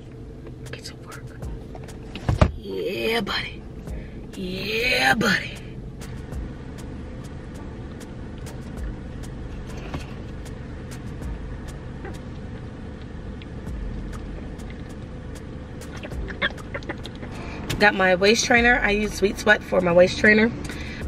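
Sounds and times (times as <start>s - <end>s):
car idling hum: 0.0s - 21.0s.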